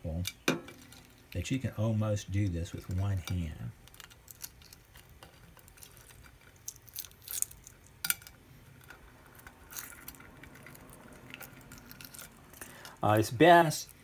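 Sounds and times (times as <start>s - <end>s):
eggshell crackling as peeled: 0.2s - 1.6s, 2.2s - 14.0s.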